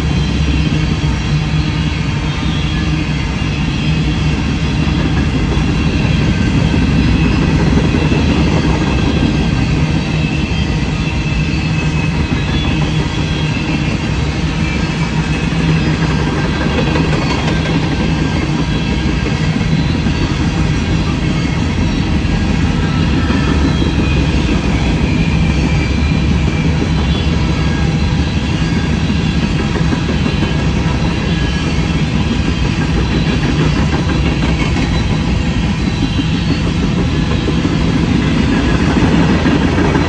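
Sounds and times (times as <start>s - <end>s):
freight train rumbling on rails: 0.0s - 40.0s
high wheel squeal: 0.0s - 40.0s
wheel clacking: 4.0s - 40.0s.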